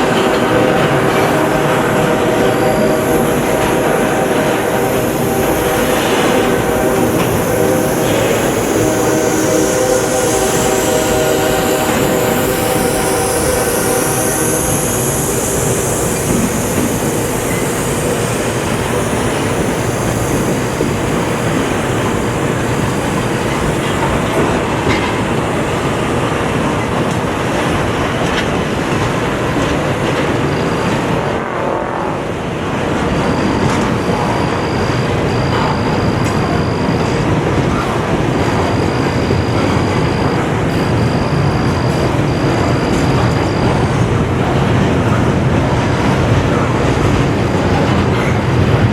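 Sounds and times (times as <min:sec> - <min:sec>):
high squeal: 0:00.0 - 0:29.3, 0:32.2 - 0:48.6
train wheels rumbling on rail: 0:00.0 - 0:48.9.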